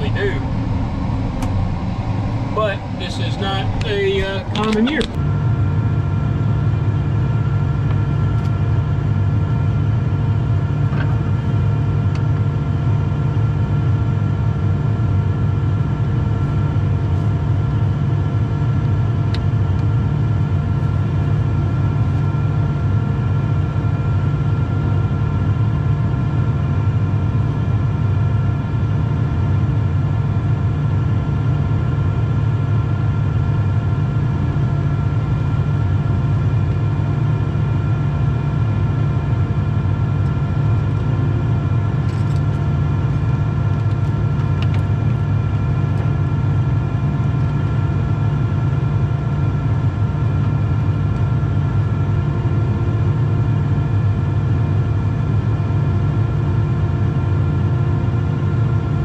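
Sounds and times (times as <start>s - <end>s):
combine low drone: 0.0s - 59.0s
steady high whine: 0.0s - 59.0s.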